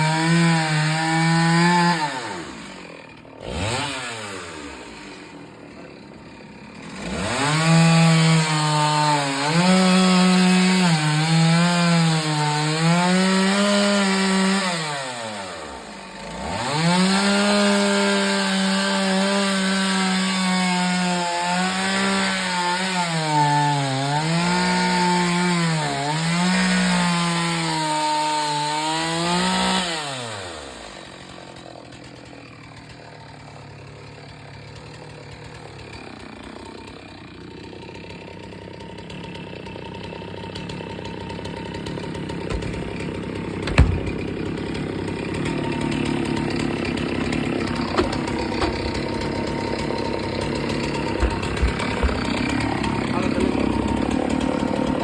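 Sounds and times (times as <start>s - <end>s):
chainsaw cutting wood: 0.0s - 55.0s
chainsaw idling: 0.0s - 55.0s.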